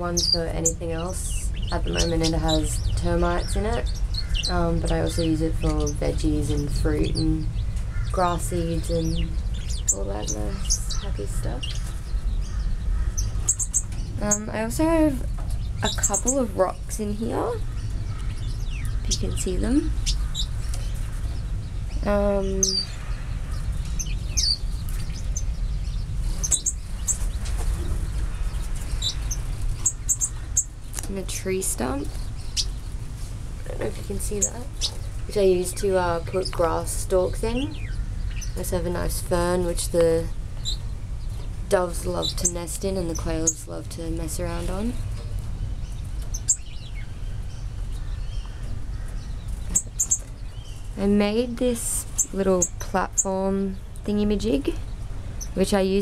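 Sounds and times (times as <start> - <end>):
finches chirping: 0.0 - 33.0, 33.7 - 56.0
steady low rumble: 0.0 - 56.0.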